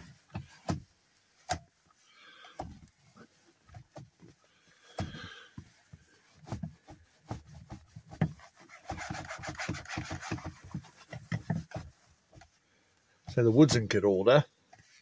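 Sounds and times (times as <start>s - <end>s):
cloth scrubbing leather: 0.0s - 12.6s.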